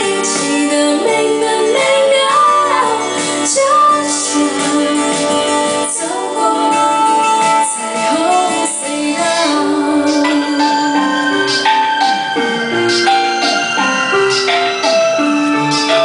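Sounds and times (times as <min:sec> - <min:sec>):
woman singing into microphone: 0:00.0 - 0:13.8
instrumental backing music: 0:00.0 - 0:16.0.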